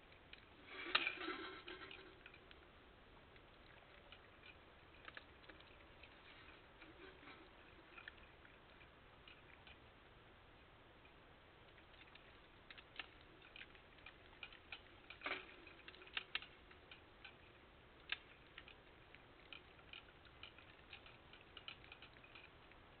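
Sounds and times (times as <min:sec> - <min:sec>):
small clicks and cracks: 0:00.0 - 0:23.0.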